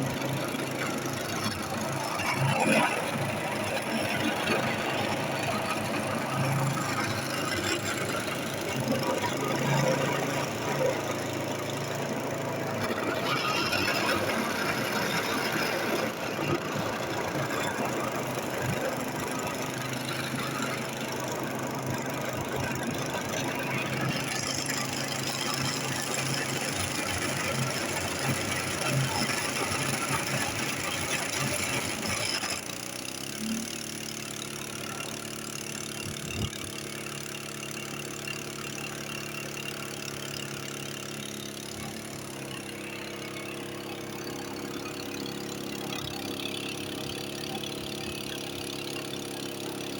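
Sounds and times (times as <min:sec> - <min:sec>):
engine running rough: 0:00.0 - 0:49.9.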